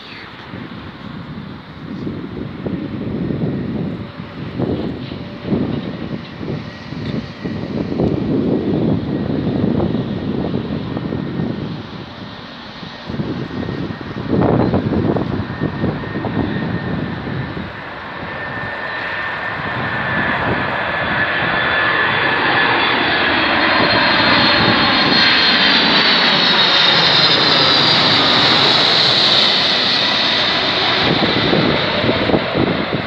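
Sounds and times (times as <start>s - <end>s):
jet engines rumbling and whining: 0.0s - 33.0s.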